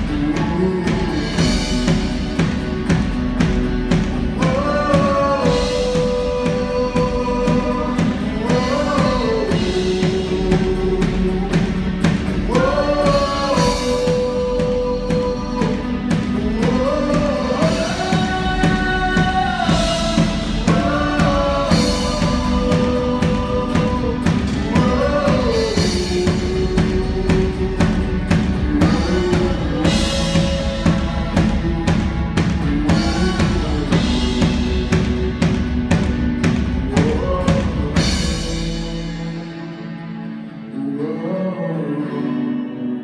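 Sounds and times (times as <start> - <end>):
drum kit beat: 0.0 - 39.4
live band playing: 0.0 - 43.0.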